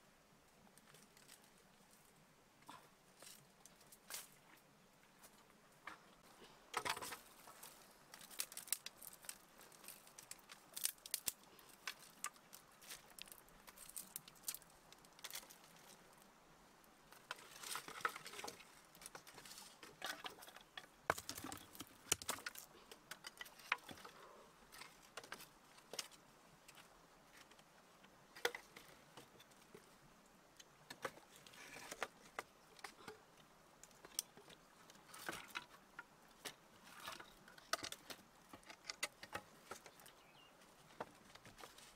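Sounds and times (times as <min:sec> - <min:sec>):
sticks and stones clicking and knocking: 0:05.2 - 0:16.1, 0:17.1 - 0:29.9, 0:30.6 - 0:41.9.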